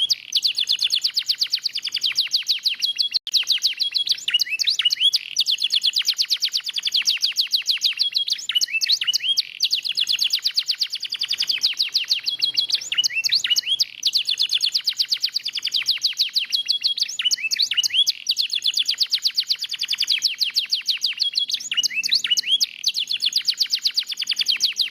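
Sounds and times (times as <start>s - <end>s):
canary singing trills: 0.0s - 24.9s.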